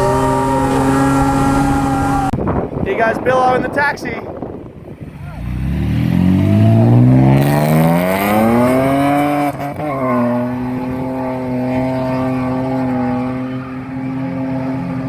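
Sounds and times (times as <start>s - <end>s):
car engine revving hard: 0.0s - 2.6s, 5.0s - 15.0s.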